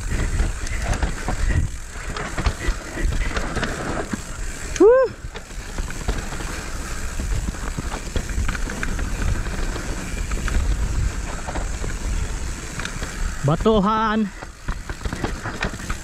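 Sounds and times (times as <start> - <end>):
bike clicks and rattles: 0.0 - 16.0
tyres rolling over dirt and rocks: 0.0 - 16.0
wind rumbling on microphone: 0.0 - 16.0.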